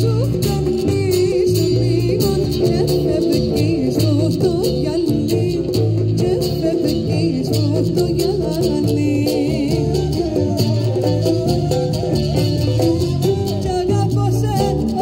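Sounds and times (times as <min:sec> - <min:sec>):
live band playing folk music: 0:00.0 - 0:15.0
plucked strings: 0:00.0 - 0:15.0
steady bass rhythm: 0:00.0 - 0:15.0.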